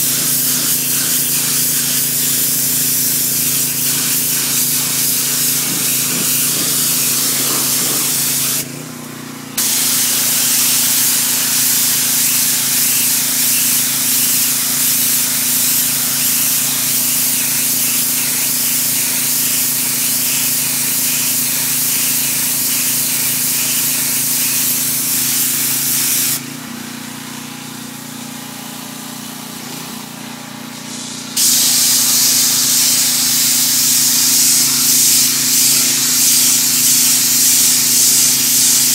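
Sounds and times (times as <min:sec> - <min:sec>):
pressure washer motor humming: 0:00.0 - 0:38.9
pressure washer water jet hissing: 0:00.0 - 0:38.9.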